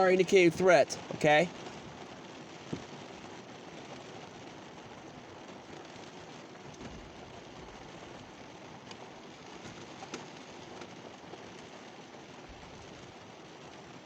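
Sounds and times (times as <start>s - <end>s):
light rain hissing: 0.0s - 14.0s.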